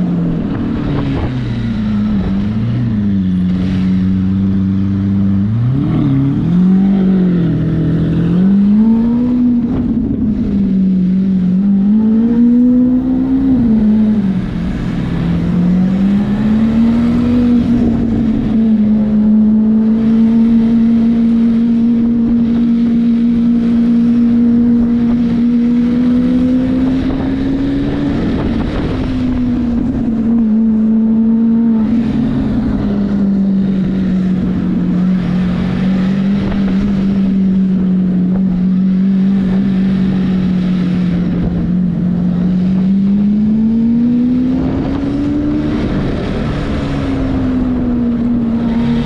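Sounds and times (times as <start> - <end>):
road and wind noise: 0.0 - 49.0
vehicle engine droning: 0.0 - 49.0.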